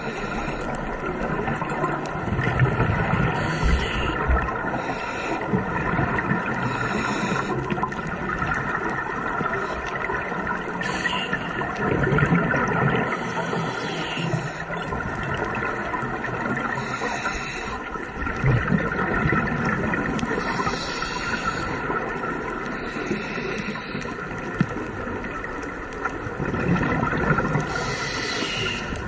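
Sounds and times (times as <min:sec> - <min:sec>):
steady underwater drone: 0:00.0 - 0:29.0.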